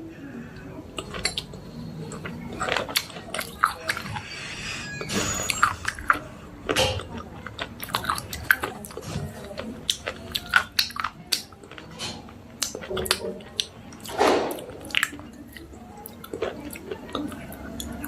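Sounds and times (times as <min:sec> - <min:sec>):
crunchy chewing: 0:00.8 - 0:18.0.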